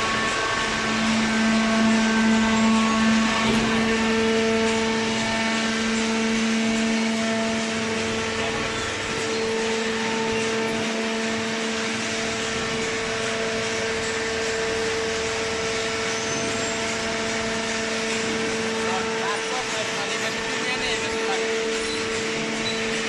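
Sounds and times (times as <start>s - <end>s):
electric motor and pump hum: 0.0s - 23.0s.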